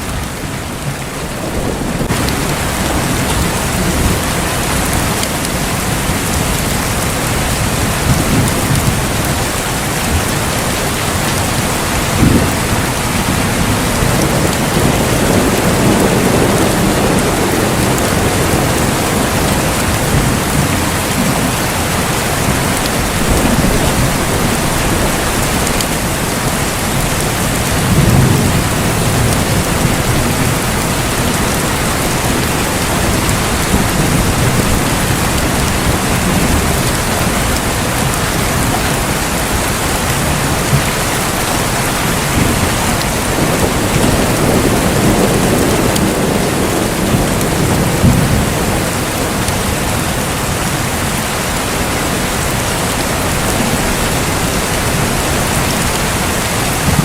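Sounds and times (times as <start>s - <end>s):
heavy rain: 0.0s - 57.0s
rolling thunder: 0.2s - 51.2s.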